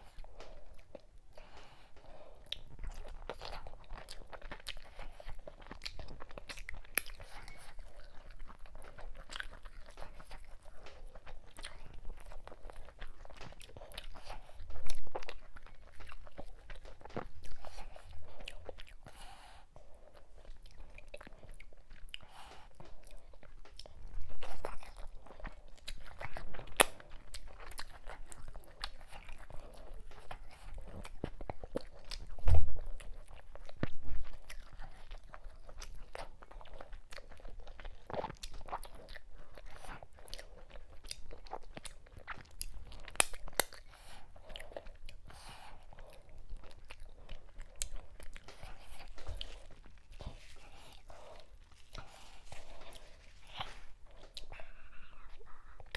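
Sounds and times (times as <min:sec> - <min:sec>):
wet chewing: 0:00.0 - 0:55.9.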